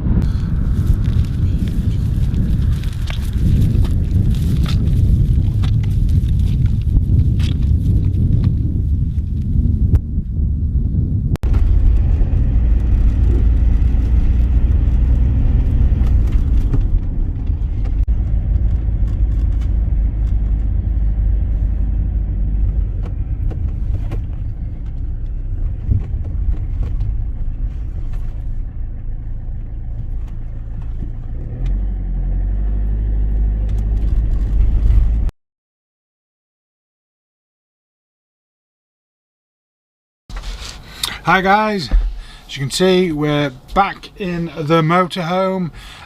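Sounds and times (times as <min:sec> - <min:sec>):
vehicle engine and road rumble: 0:00.0 - 0:35.3, 0:40.3 - 0:46.0.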